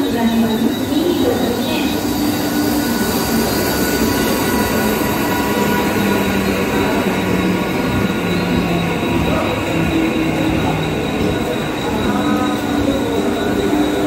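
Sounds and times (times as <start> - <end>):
train high hum: 0.0 - 14.0
train wheels rumbling on rail: 0.0 - 14.0.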